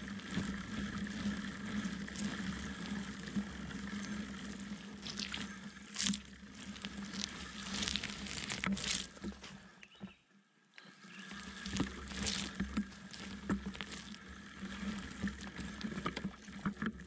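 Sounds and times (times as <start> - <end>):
bike tyre rolling through mud: 0.0 - 9.8, 10.9 - 17.0.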